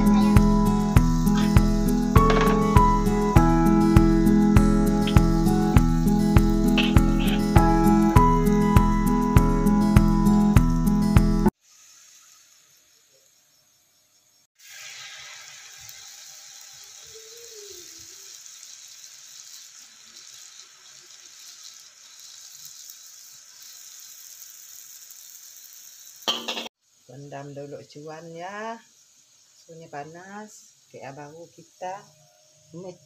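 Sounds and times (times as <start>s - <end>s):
hot oil sizzling: 0.0s - 33.0s.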